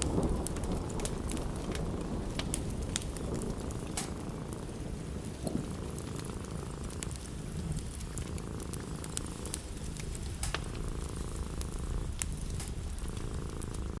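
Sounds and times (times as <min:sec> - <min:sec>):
cat purring: 0:00.0 - 0:14.0
wood fire crackling: 0:00.0 - 0:14.0.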